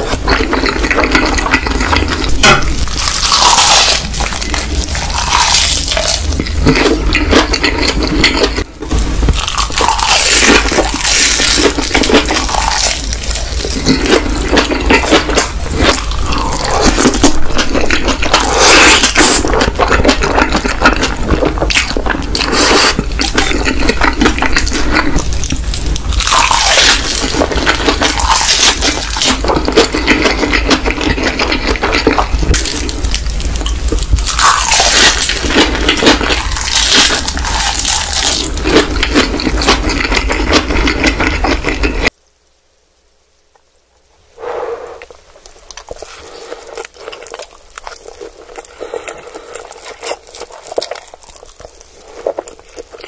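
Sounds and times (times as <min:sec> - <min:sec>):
person chewing noodles: 0:00.0 - 0:42.1, 0:44.4 - 0:53.0.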